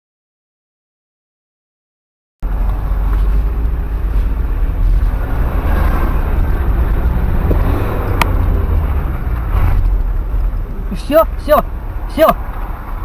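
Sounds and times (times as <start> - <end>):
vehicle engine and road rumble: 2.4 - 13.0.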